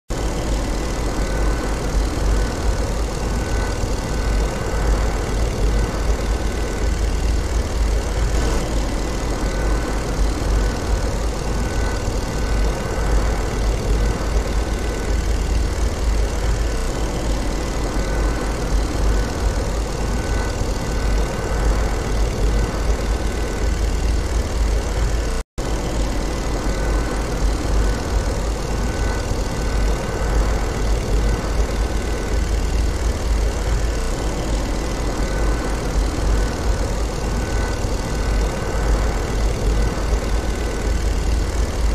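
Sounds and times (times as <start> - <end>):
warplane engine drone: 0.1 - 41.9.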